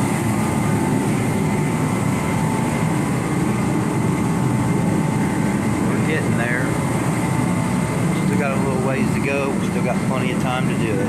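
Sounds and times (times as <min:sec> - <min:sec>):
machine running: 0:00.0 - 0:11.0.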